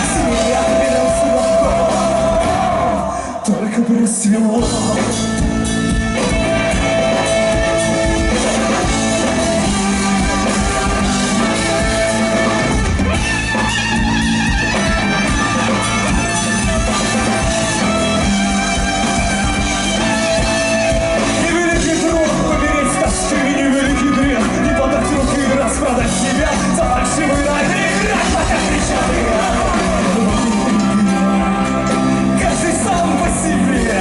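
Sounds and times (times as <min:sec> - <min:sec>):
rock band instrumental: 0:00.0 - 0:03.5, 0:04.6 - 0:34.0.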